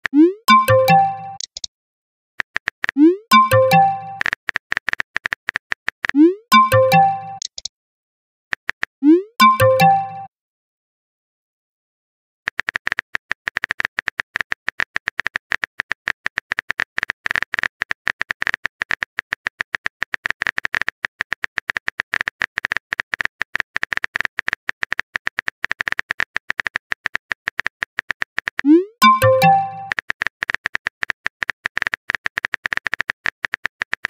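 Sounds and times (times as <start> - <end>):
phone keyboard typing clicks: 0.0 - 1.7, 2.4 - 7.7, 8.6 - 10.3, 12.5 - 34.0.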